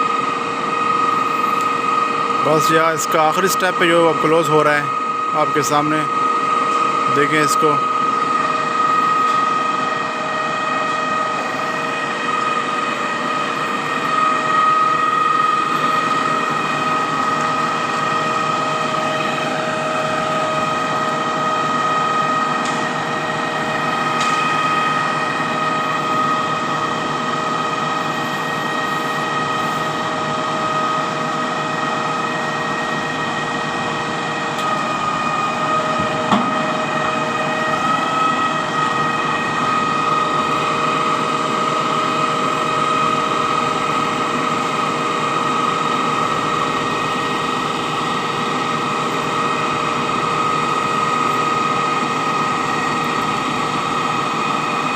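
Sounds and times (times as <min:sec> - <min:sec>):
concrete pump running: 0:00.0 - 0:54.9
high whine: 0:00.0 - 0:54.9.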